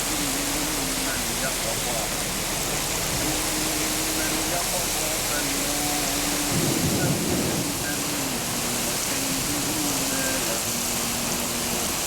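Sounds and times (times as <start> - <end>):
heavy rain pouring: 0.0 - 12.0
low rumble: 0.0 - 12.0.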